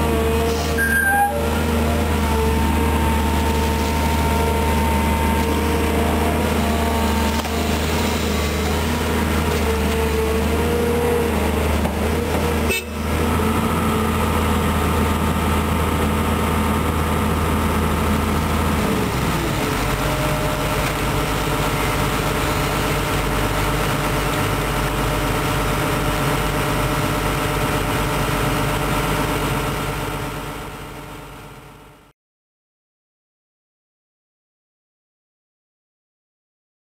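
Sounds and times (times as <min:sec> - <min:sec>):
excavator diesel engine running: 0:00.0 - 0:32.1.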